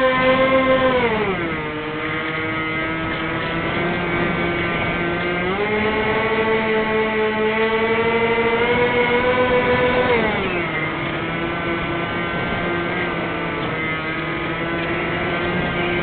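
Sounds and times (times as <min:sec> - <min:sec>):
electric motors and propellers humming: 0:00.0 - 0:16.0.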